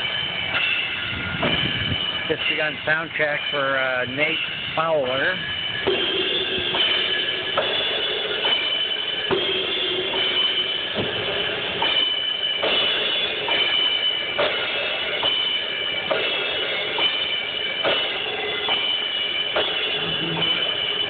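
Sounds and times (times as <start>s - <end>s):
steady background tone: 0.0s - 21.0s.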